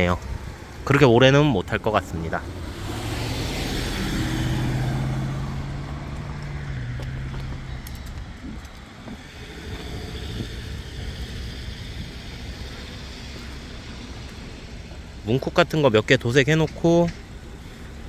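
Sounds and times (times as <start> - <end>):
distant traffic: 0.0 - 18.0
vehicle passing by: 0.0 - 18.0.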